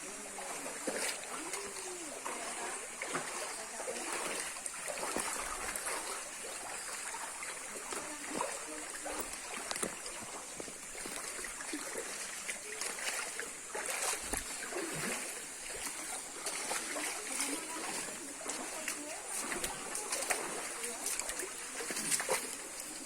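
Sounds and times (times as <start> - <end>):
running water: 0.0 - 23.0
splashing footsteps in stream: 0.0 - 23.0.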